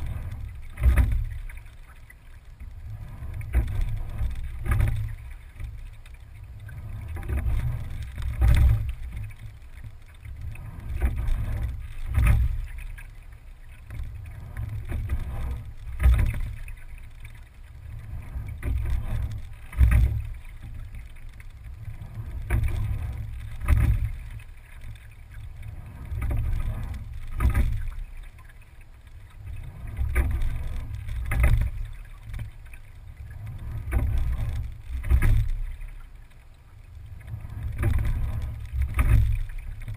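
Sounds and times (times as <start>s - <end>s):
low rumble: 0.0s - 39.9s
water rushing along hull: 0.0s - 39.9s.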